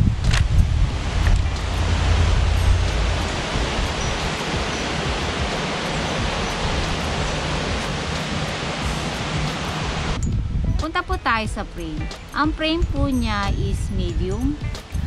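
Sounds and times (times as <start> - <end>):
low rumbling wind buffets: 0.0 - 15.0
wind hiss on microphone: 0.0 - 15.0.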